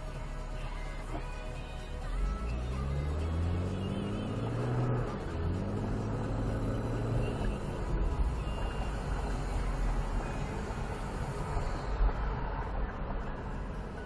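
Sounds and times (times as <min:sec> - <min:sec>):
car engine: 0:00.0 - 0:14.0
road noise inside car: 0:00.0 - 0:14.0.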